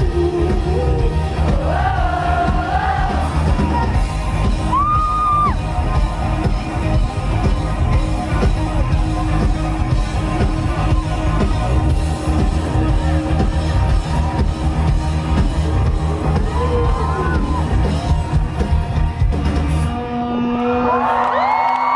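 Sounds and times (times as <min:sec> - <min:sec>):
live rock band playing: 0:00.0 - 0:20.7
crowd yelling and cheering: 0:00.0 - 0:21.9.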